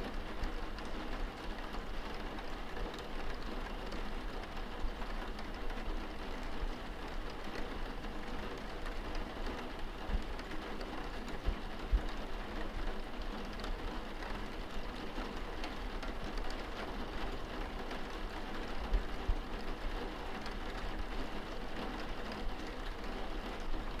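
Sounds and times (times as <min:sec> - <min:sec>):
rain on window glass: 0:00.0 - 0:24.0.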